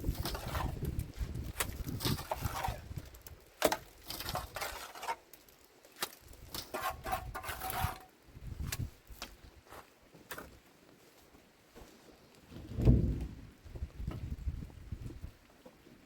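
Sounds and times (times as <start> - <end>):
scraping crunching sounds: 0.0 - 13.5.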